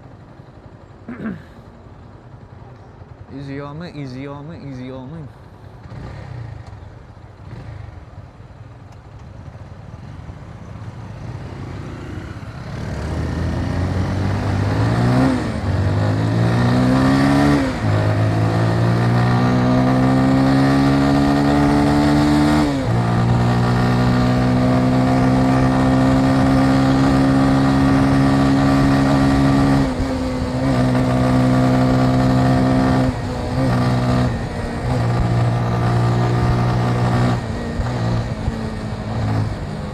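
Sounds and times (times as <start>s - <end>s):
motorcycle engine accelerating: 5.7s - 39.9s.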